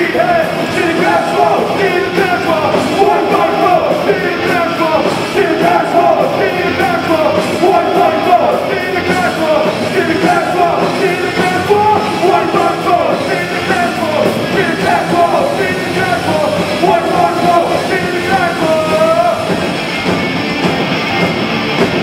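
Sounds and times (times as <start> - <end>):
person singing: 0.0 - 19.6
bass: 0.0 - 22.0
drums: 0.0 - 22.0
electric guitar: 0.0 - 22.0.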